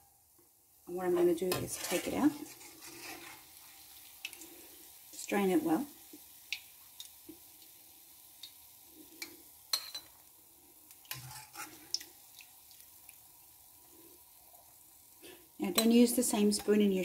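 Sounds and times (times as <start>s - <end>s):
oil sizzling in pan: 0.0s - 17.0s.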